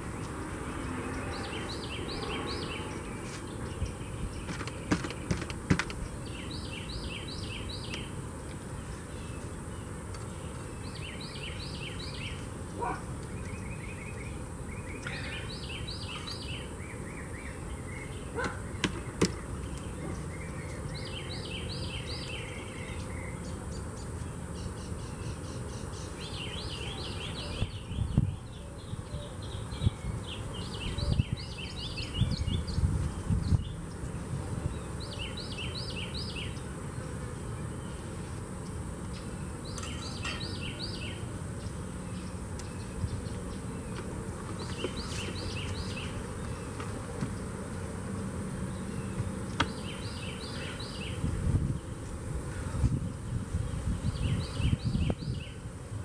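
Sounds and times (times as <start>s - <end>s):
outdoor background noise: 0.0s - 56.0s
songbird singing: 0.0s - 56.0s.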